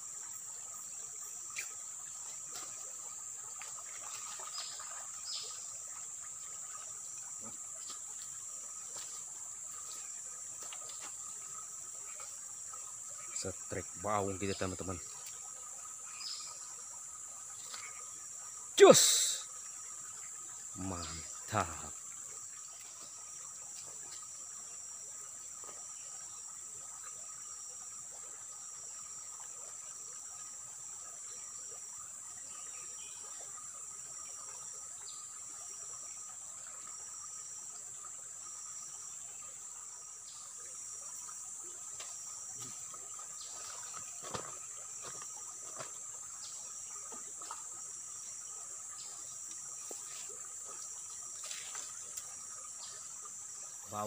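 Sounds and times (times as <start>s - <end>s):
insect chorus buzzing: 0.0s - 54.0s.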